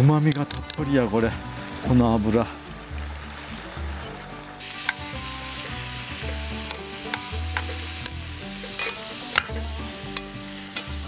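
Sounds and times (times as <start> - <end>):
meat sizzling in a frying pan: 0.9 - 11.0.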